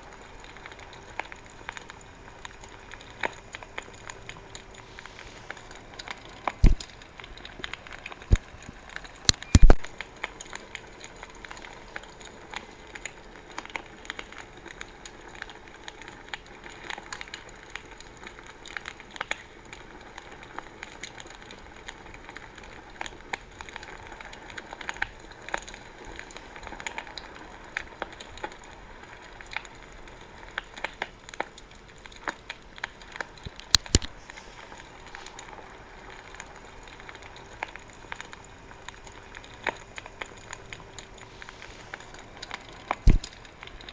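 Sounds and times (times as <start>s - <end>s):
bonfire crackling: 0.0s - 43.9s
fire hiss: 0.0s - 43.9s.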